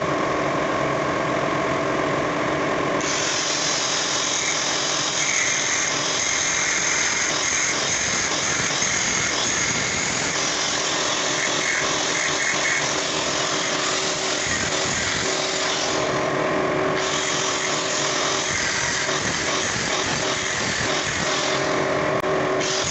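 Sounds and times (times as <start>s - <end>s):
electric power tool whining: 3.0s - 16.4s, 17.0s - 22.0s, 22.6s - 22.9s.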